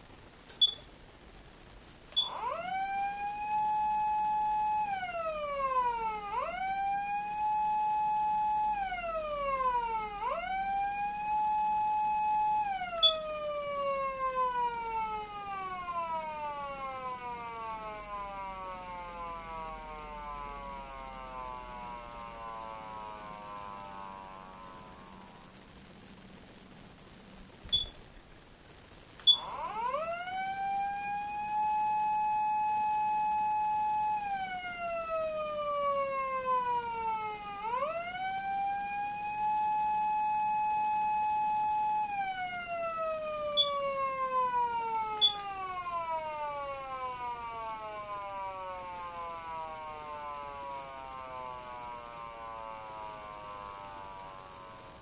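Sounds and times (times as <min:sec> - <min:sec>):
electronic siren wailing: 0:02.2 - 0:26.6, 0:29.2 - 0:55.0.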